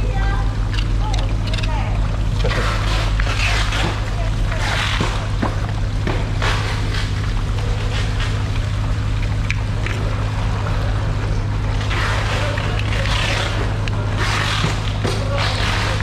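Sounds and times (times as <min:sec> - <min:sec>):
low machine hum: 0:00.0 - 0:16.0
water running and splashing: 0:00.0 - 0:16.0.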